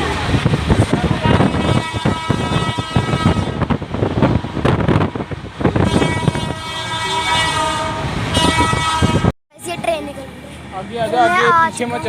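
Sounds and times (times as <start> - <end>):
passenger train running: 0.0 - 12.0
train rattling: 0.0 - 12.0.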